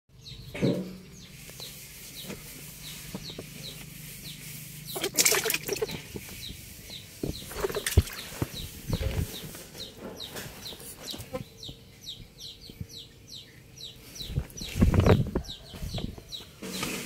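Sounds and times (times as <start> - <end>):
bird peeping: 0.1 - 17.0.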